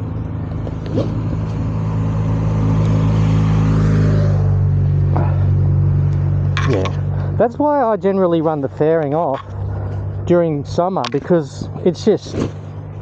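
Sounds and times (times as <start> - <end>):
motorcycle passing: 0.0 - 13.0.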